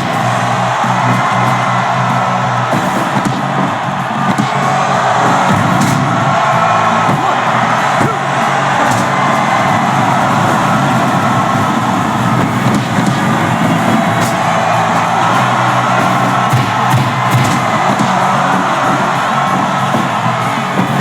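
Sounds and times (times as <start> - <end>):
loud music: 0.0 - 21.0.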